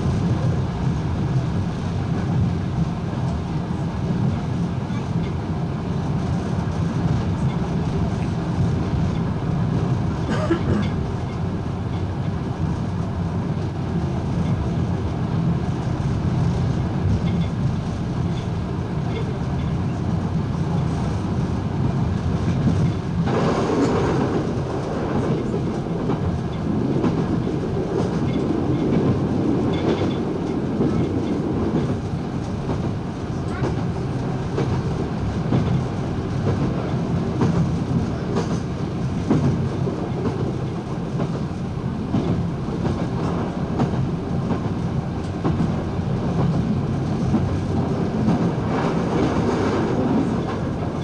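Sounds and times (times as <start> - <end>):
rail clicks: 0.0 - 51.0
train engine and wheel drone: 0.0 - 51.0.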